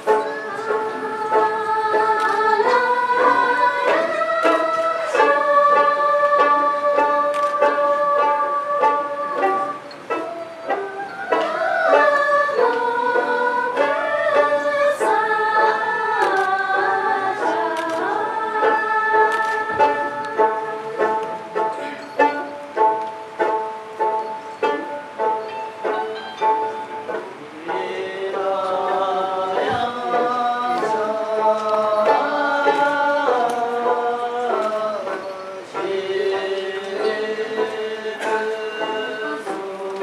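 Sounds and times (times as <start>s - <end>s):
group singing in unison: 0.0s - 40.0s
plucked lute strumming: 0.0s - 40.0s.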